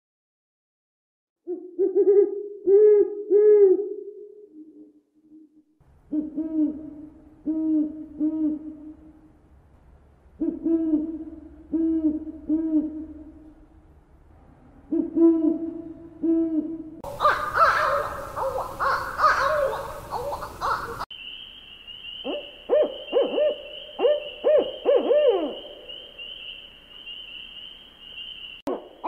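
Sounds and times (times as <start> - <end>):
owl hooting: 1.4 - 9.2, 10.4 - 13.5, 14.9 - 29.0.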